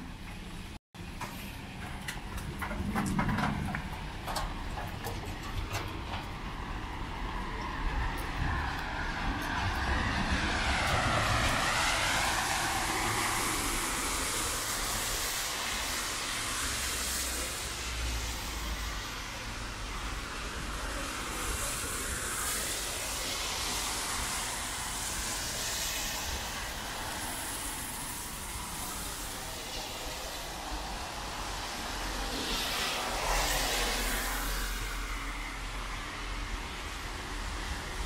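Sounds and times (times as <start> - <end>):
vehicle passing close by: 5.4 - 38.0
tyres hissing on wet asphalt: 6.3 - 38.0
steady rain: 6.6 - 38.0.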